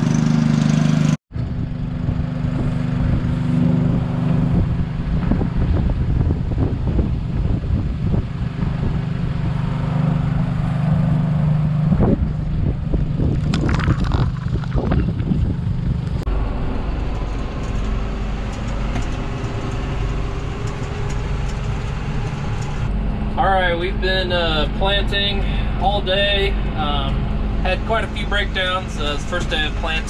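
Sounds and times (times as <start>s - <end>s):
engine drone inside cab: 0.0s - 30.0s
tractor engine running: 0.0s - 30.0s.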